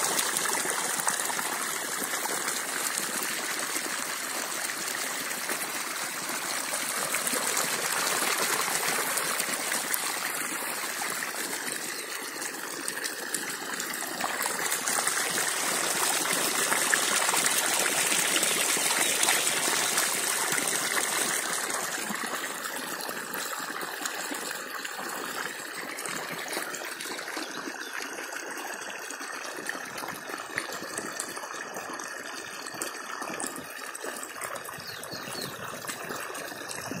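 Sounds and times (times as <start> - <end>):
water gushing and splashing: 0.0 - 37.0.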